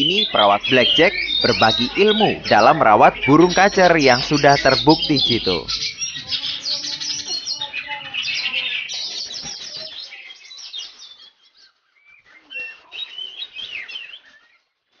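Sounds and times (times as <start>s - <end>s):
bird singing whistles and chirps: 0.0s - 14.7s.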